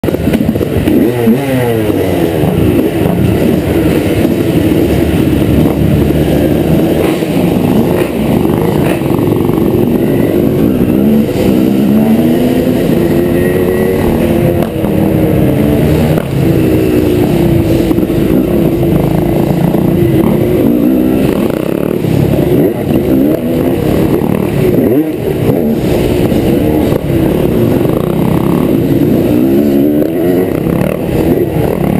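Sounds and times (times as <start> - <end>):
two-stroke motorcycle engine revving: 0.0 - 31.9.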